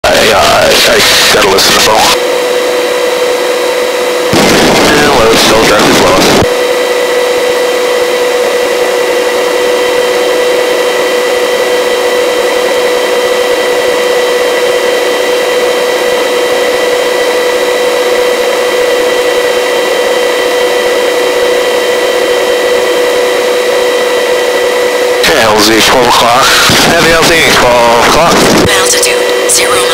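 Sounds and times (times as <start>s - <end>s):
helicopter in flight: 0.0s - 29.9s.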